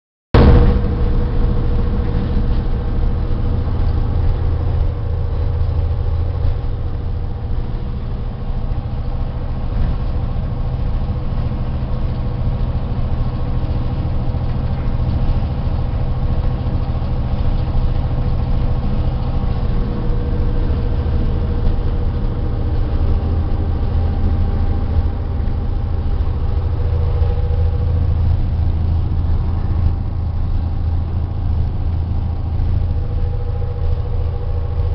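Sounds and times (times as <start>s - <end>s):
locomotive engine deep drone: 0.3s - 34.9s
high steady hum: 0.4s - 34.9s.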